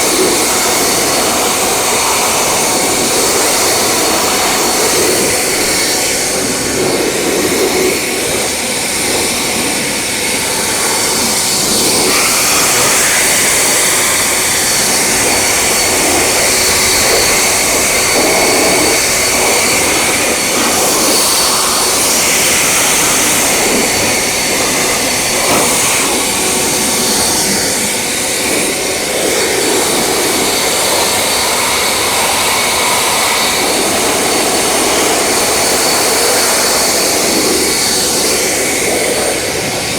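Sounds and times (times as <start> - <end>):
car-wash machine rushing and whining: 0.0 - 39.9.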